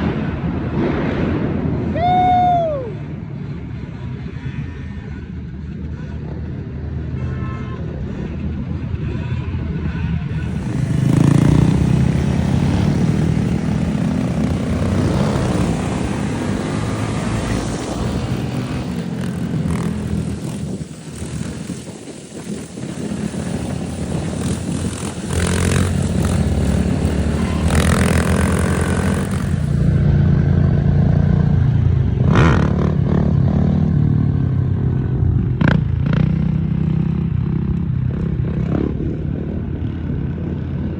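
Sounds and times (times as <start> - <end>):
small motorcycle engines running: 3.4 - 40.9.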